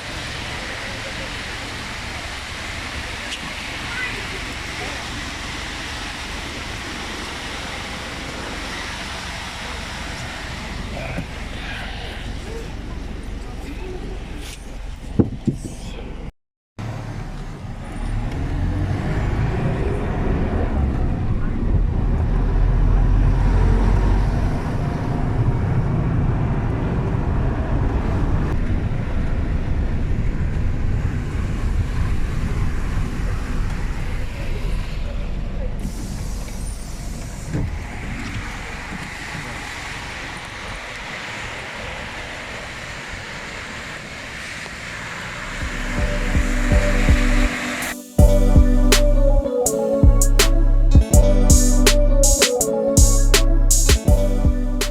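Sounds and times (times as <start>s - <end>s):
bus engine and road rumble: 0.0s - 49.5s.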